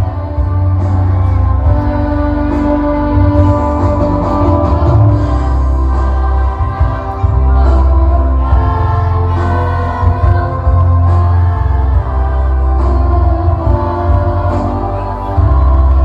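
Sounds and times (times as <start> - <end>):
choir singing: 0.0 - 16.0
musical accompaniment with heavy bass: 0.0 - 16.0.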